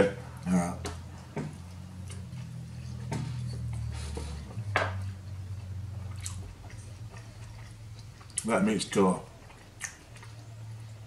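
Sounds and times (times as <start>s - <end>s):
wet squishy chewing: 0.3s - 11.0s.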